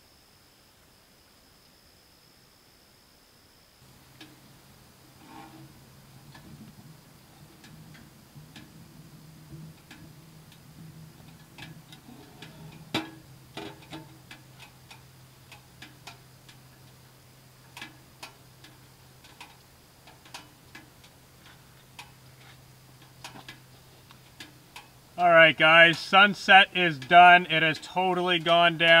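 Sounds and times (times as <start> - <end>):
faint low hum: 0.0 - 29.0
wood stove fire crackling: 3.8 - 29.0.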